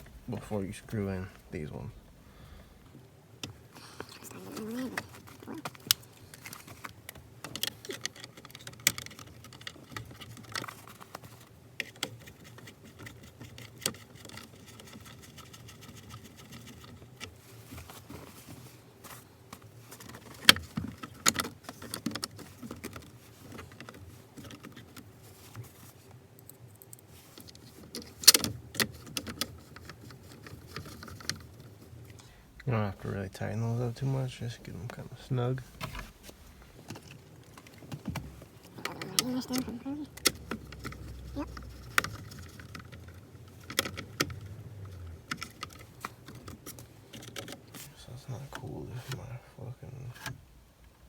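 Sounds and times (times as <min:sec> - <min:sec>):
small parts clicking and rattling: 0:00.0 - 0:17.9, 0:19.5 - 0:32.7, 0:34.3 - 0:47.8.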